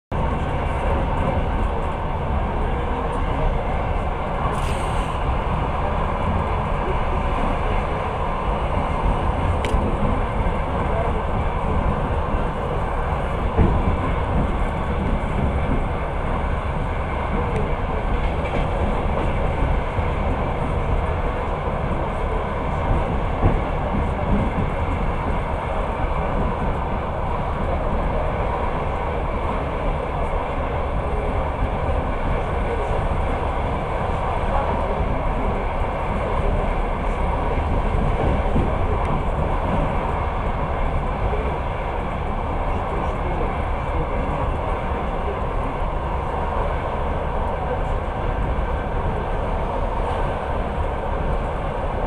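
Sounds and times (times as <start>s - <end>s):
train wheels rumbling on rails: 0.1s - 52.0s.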